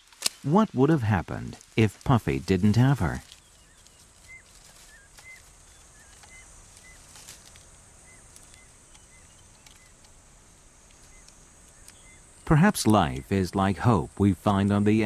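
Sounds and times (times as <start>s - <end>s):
bird chirping: 0.0s - 7.2s, 7.8s - 10.2s, 10.9s - 15.0s.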